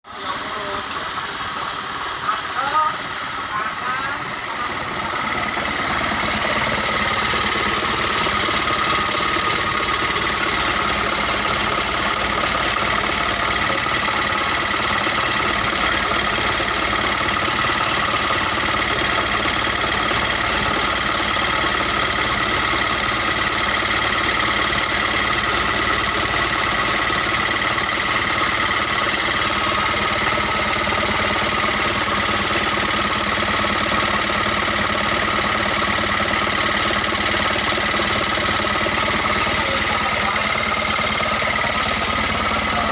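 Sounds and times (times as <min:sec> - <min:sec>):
diesel truck engine idling: 0:00.1 - 0:42.9.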